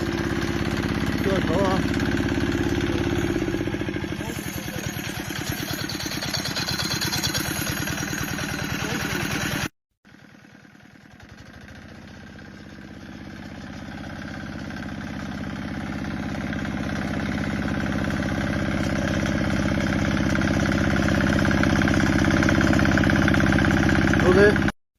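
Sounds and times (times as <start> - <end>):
tractor diesel engine running: 0.0 - 24.8.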